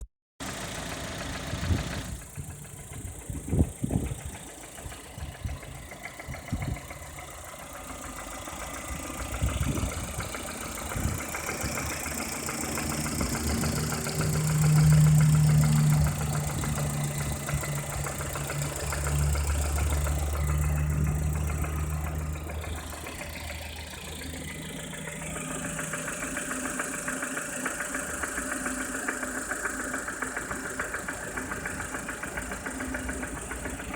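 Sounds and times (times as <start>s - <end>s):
car engine idling with knock: 0.4s - 33.9s.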